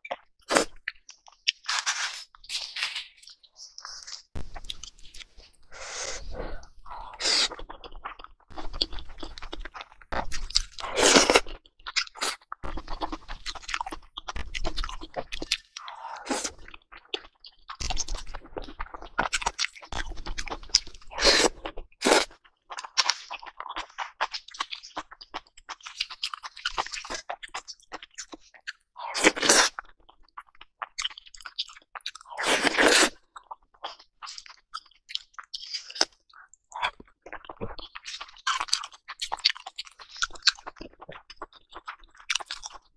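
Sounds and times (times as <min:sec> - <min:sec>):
person chewing and crunching food: 0:00.0 - 0:42.9.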